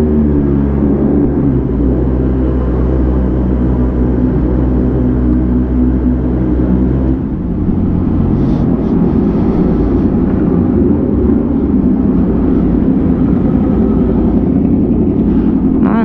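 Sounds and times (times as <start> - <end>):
road and wind noise: 0.0 - 16.0
vehicle engine rumble: 0.0 - 16.0.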